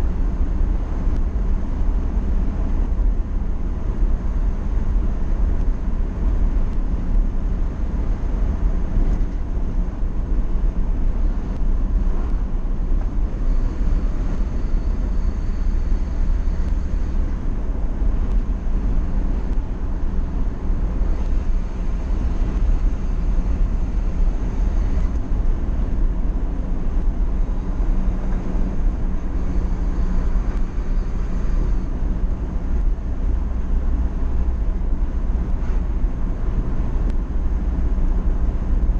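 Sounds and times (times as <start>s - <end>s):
motorcycle engine drone: 0.0s - 38.9s
wind rush over microphone: 0.0s - 38.9s.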